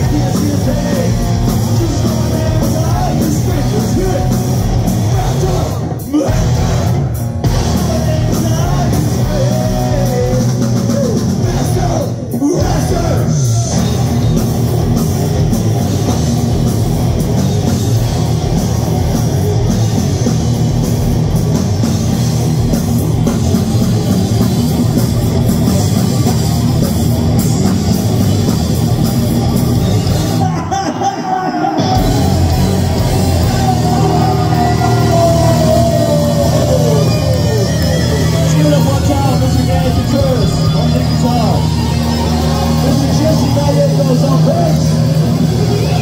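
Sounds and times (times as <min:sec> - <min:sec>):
heavy metal band playing: 0:00.0 - 0:46.0.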